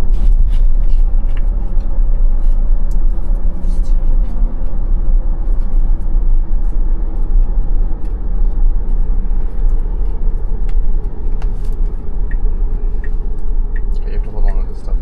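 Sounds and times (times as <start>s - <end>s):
road and tyre rumble in car cabin: 0.0s - 15.0s.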